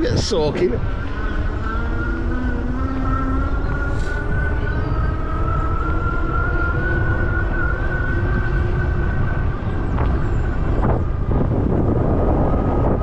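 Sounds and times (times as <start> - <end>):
electric bike motor whining: 0.0 - 13.0
wind buffeting microphone: 0.0 - 13.0.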